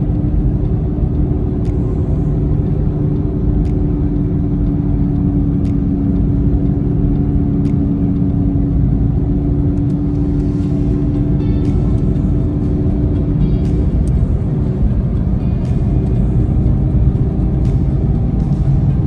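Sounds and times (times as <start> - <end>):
car cabin road and engine drone: 0.0 - 19.0.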